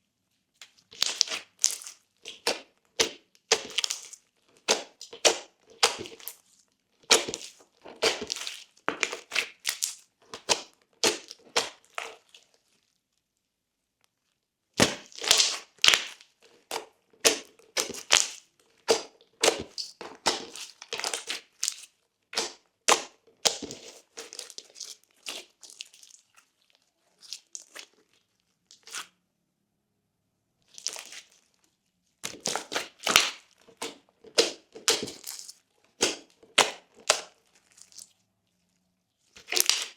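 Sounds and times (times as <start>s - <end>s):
slime popping and crackling: 0.6s - 12.6s, 14.8s - 29.1s, 30.7s - 31.4s, 32.2s - 38.2s, 39.4s - 39.9s.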